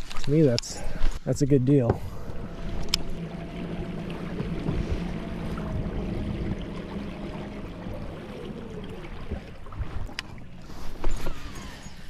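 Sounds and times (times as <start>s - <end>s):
water washing along hull: 0.0s - 12.0s
electric boat motor humming: 1.8s - 12.0s.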